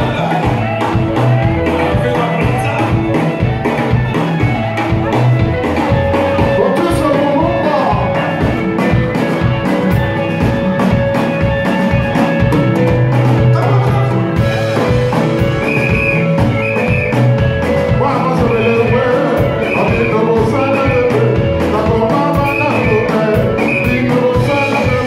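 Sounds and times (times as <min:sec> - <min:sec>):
drum kit beat: 0:00.0 - 0:25.0
electric guitars: 0:00.0 - 0:25.0.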